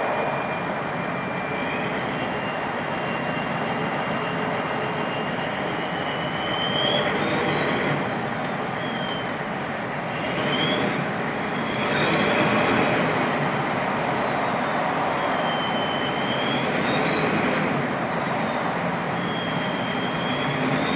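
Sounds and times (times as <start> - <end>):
engine and road noise: 0.0 - 20.9
turbocharger whistle: 0.0 - 20.9.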